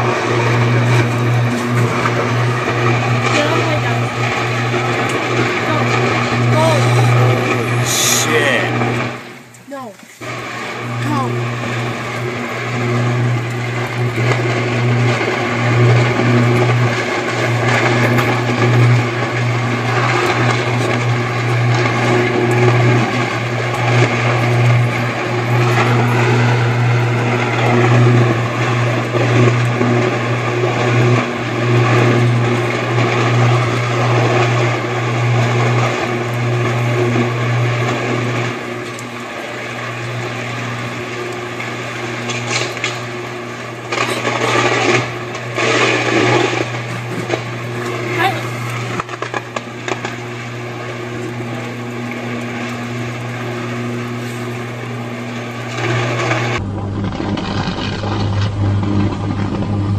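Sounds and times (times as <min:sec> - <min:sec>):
electrical arc buzzing: 0:00.0 - 0:59.9
electrical crackling bursts: 0:00.3 - 0:59.9.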